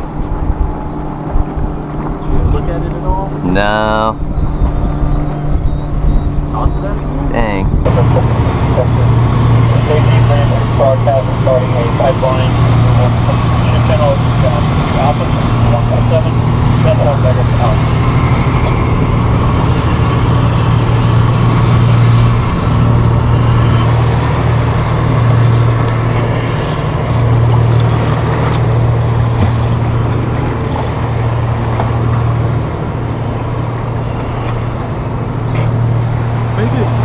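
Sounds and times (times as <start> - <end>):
boat motor droning: 0.0 - 37.0.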